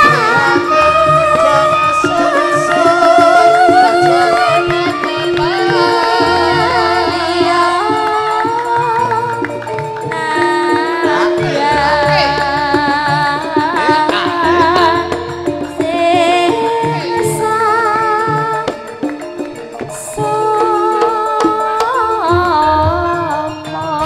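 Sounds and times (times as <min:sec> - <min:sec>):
woman singing wavering vocal: 0:00.0 - 0:19.0, 0:19.9 - 0:24.0
metallophone tones: 0:00.0 - 0:24.0.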